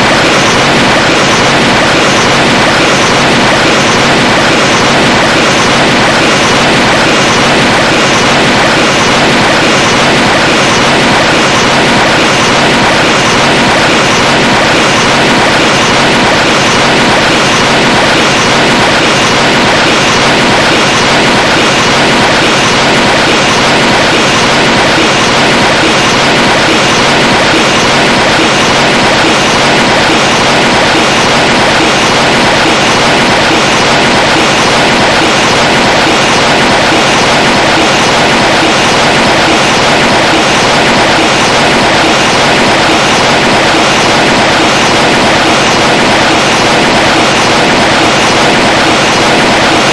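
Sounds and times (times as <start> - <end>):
loud rushing noise: 0.0 - 49.9.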